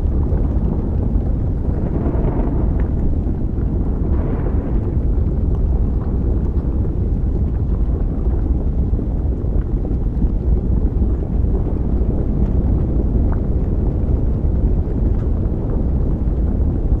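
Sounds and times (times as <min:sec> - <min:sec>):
deep volcanic rumble: 0:00.0 - 0:17.0
faint crackles: 0:00.0 - 0:17.0.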